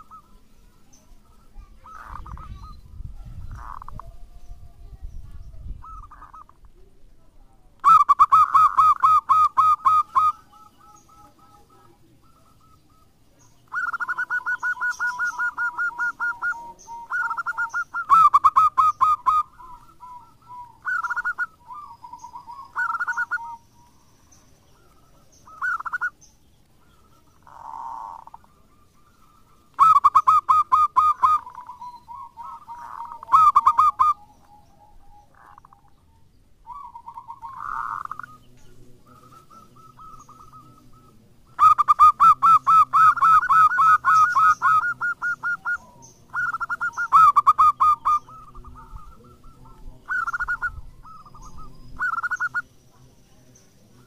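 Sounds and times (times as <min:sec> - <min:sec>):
dove cooing: 0:00.0 - 0:05.0, 0:05.6 - 0:06.7, 0:07.8 - 0:54.0.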